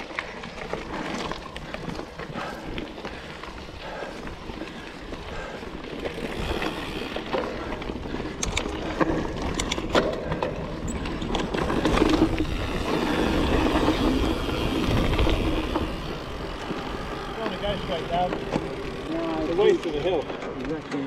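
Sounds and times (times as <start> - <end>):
bike rattling: 0.0 - 21.0
bike tyres rumbling on dirt: 0.0 - 21.0.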